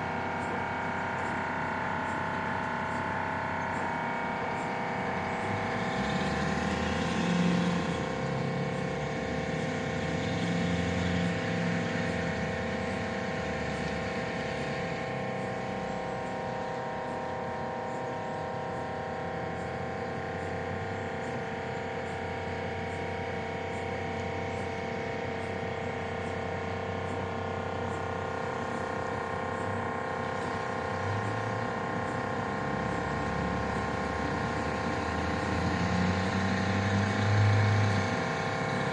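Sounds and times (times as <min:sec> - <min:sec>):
mri scanner humming: 0:00.0 - 0:38.9.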